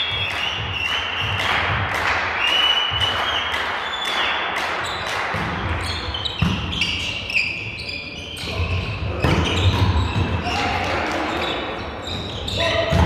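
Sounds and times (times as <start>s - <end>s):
echoing hall noise: 0.0s - 13.0s.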